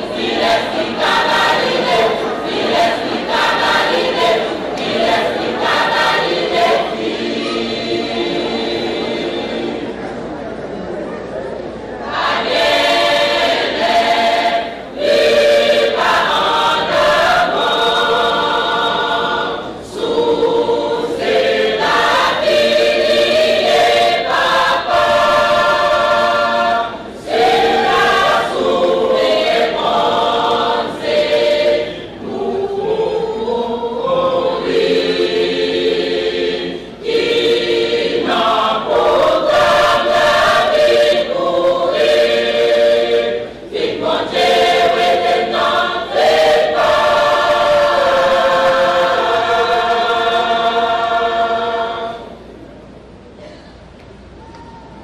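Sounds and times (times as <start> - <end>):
choir singing in harmony: 0.0 - 10.3, 12.0 - 53.0.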